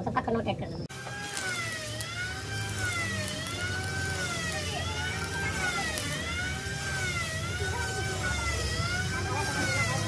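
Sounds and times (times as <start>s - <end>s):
siren wailing: 1.0s - 10.0s.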